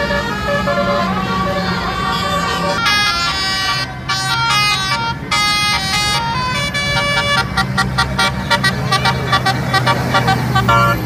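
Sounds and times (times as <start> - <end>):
low hum of bus engine: 0.0 - 11.0
multi-tone bus horn melody: 0.0 - 11.0.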